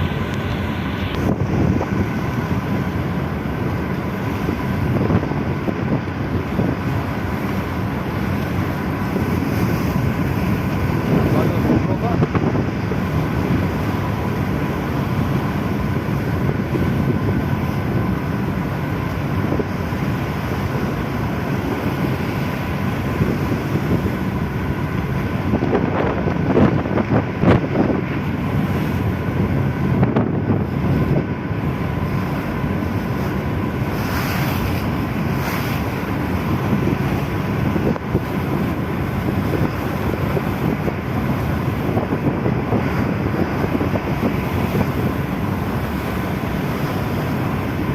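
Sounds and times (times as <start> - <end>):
low engine drone: 0.0 - 47.9
wind buffeting microphone: 0.0 - 47.9.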